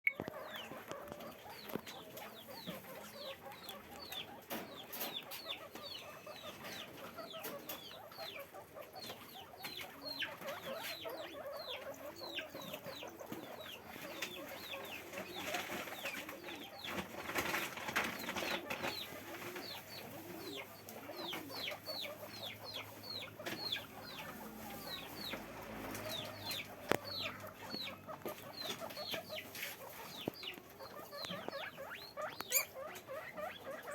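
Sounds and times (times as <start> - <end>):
guinea pigs squeaking: 0.1 - 33.9
background movement: 0.2 - 33.9.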